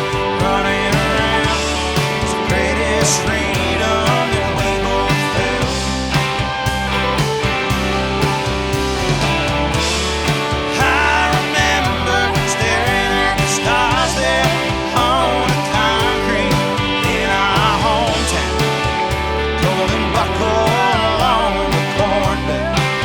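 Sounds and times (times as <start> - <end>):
drums and bass beat: 0.0 - 23.0.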